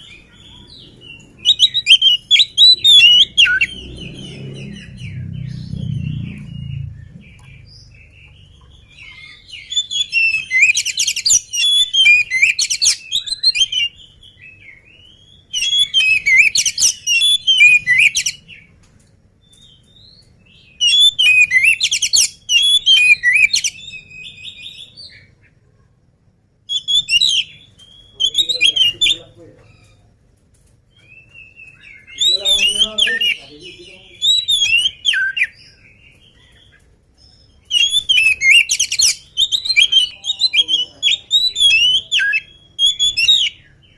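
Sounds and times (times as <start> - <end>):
bird singing whistled phrases: 0.0 - 18.5, 20.0 - 25.3, 26.7 - 29.9, 31.0 - 35.9, 37.6 - 43.8.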